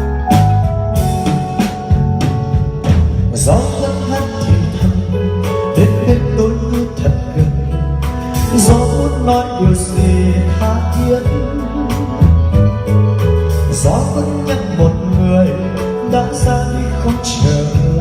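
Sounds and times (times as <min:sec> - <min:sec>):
pop ballad with drums and keyboards: 0:00.0 - 0:18.0
man singing: 0:03.3 - 0:18.0.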